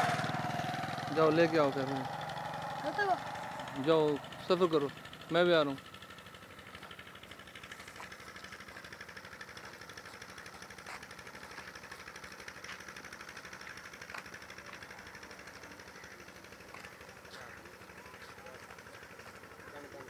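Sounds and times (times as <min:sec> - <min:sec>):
engine running with fast pulsing: 0:00.0 - 0:20.0.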